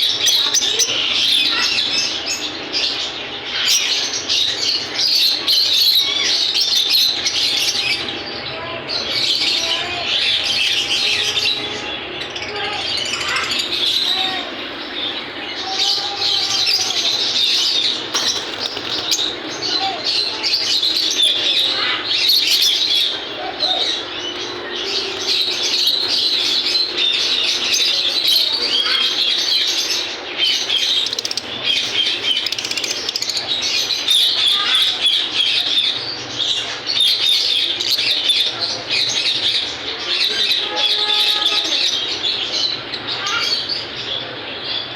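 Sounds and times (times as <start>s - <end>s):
parrots chirping and chattering: 0.0s - 44.9s.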